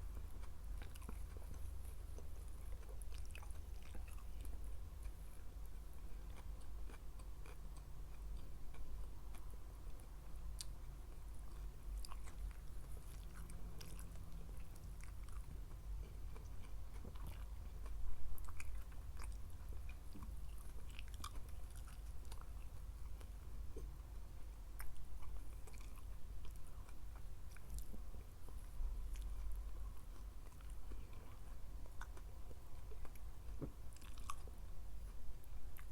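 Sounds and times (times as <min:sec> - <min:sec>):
chewing with wet mouth clicks: 0:00.0 - 0:35.9.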